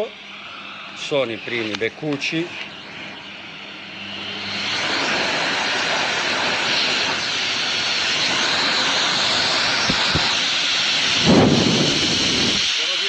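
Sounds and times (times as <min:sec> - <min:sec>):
dog dryer blowing air: 0:00.0 - 0:13.0.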